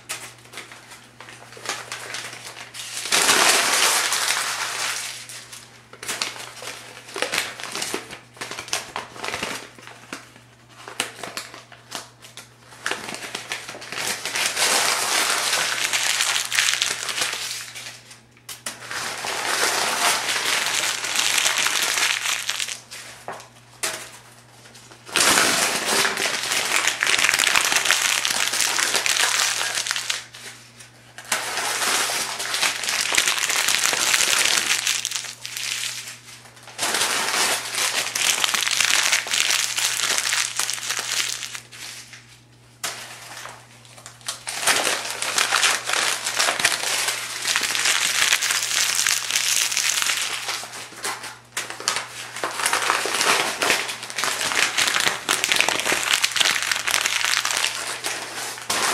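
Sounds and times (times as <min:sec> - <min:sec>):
paper pages being crumpled: 0:00.0 - 0:18.2, 0:18.8 - 0:23.6, 0:24.6 - 0:58.9.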